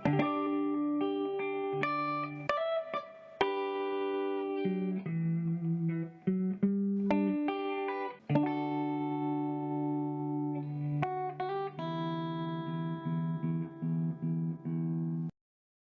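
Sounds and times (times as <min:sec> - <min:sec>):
guitar music: 0:00.0 - 0:15.3.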